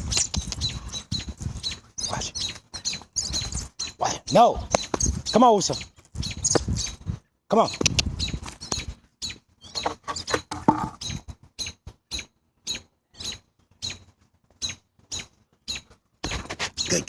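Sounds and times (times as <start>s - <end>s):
small bird squeaking: 0.0s - 17.0s.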